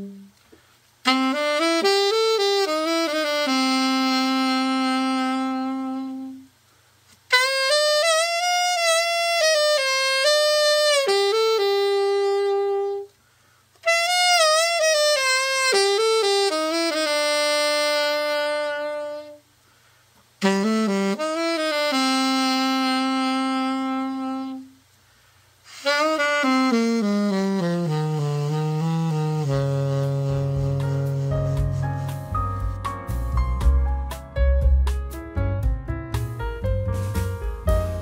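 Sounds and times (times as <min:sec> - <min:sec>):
solo alto saxophone melody: 0:00.0 - 0:06.6, 0:07.2 - 0:33.9, 0:36.6 - 0:38.0.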